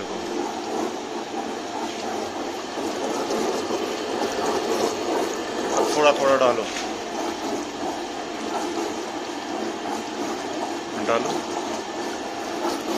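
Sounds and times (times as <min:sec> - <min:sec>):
disperser motor whirring: 0:00.0 - 0:12.9.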